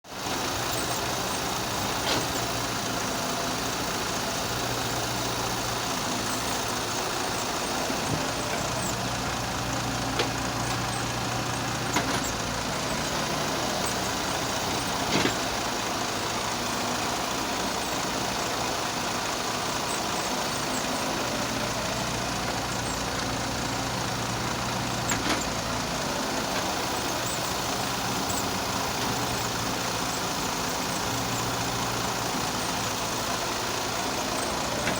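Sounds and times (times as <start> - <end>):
heavy machine engine running: 0.1 - 34.9.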